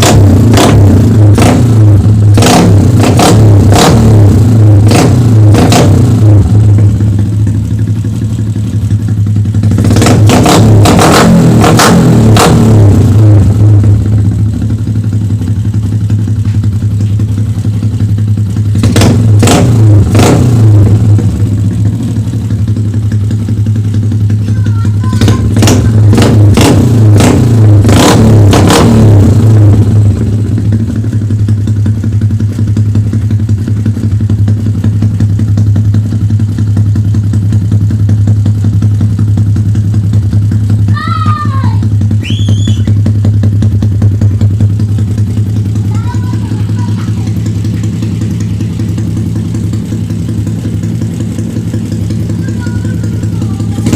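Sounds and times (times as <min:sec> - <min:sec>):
motorcycle engine idling and revving: 0:00.0 - 0:53.9.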